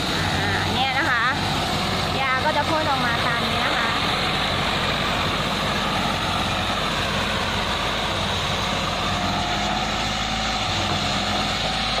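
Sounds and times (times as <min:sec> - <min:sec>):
sprayer hissing: 0:00.0 - 0:12.0
tractor engine running: 0:00.0 - 0:12.0.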